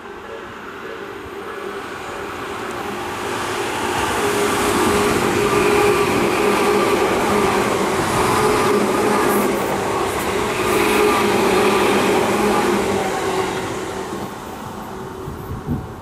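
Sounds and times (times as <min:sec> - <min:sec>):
train hum: 0:00.0 - 0:16.0
train wheels rumbling: 0:00.0 - 0:16.0.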